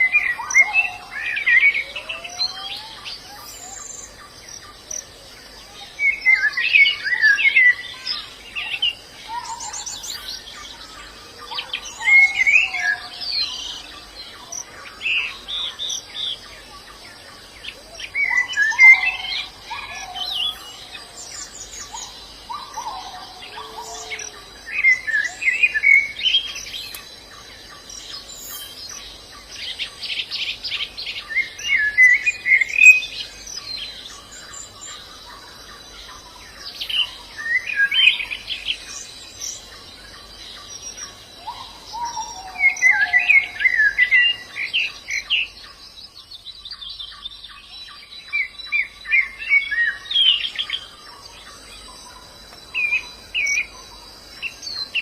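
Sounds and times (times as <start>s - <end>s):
birds twittering song: 0.0s - 55.0s
lower whistled bird notes: 0.0s - 55.0s.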